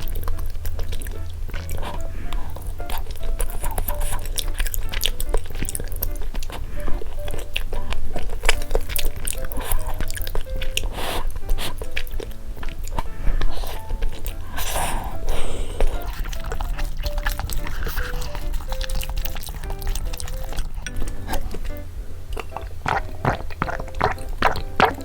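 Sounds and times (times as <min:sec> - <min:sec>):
light background music: 0:00.0 - 0:25.0
person chewing food: 0:00.0 - 0:25.0
utensil and mouth clicks: 0:00.0 - 0:25.0.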